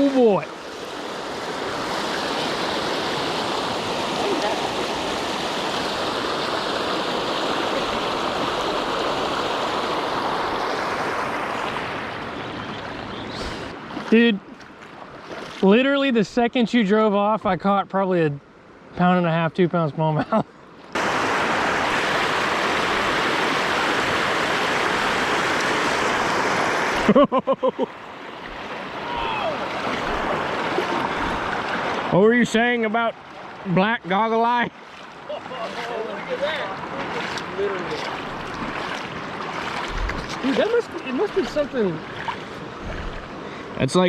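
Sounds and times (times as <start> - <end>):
creek water rushing: 0.0 - 20.2, 20.8 - 44.0.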